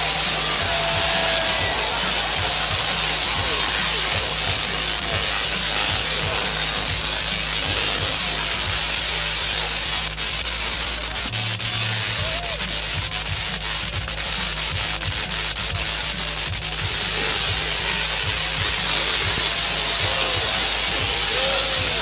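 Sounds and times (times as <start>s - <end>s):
tesla coil arcs crackling buzz: 0.0s - 22.0s.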